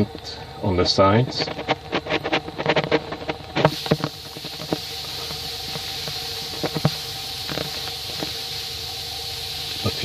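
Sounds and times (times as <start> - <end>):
air hissing from pipe leak: 0.0 - 10.0
faint motor hum: 0.0 - 10.0.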